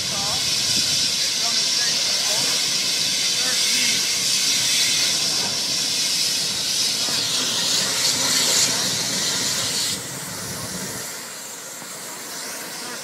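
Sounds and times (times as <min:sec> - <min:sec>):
fire hose hissing: 0:00.0 - 0:13.0.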